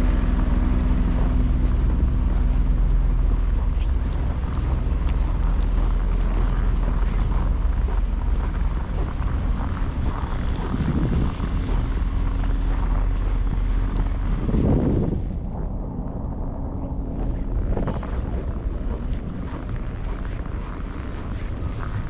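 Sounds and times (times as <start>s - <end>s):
low rumble of traffic: 0.0s - 22.0s
wind buffeting microphone: 0.0s - 22.0s.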